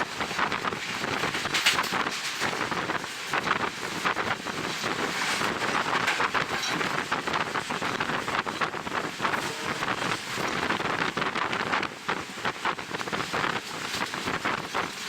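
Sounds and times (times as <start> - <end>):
moving train running noise: 0.0 - 15.0
wind buffeting microphone: 0.0 - 15.0.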